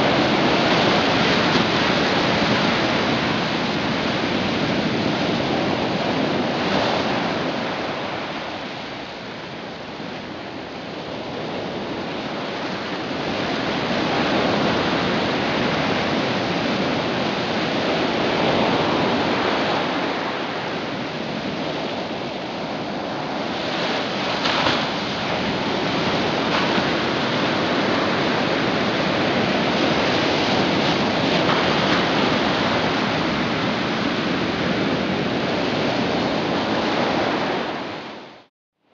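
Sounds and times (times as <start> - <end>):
waves breaking on rocky shore: 0.0 - 38.5.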